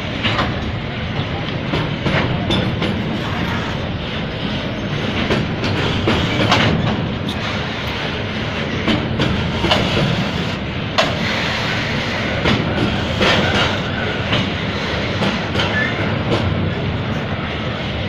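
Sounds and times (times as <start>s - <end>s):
wheels clacking over rail joints: 0.0s - 17.3s
train wheels rumbling on rail: 0.0s - 18.0s.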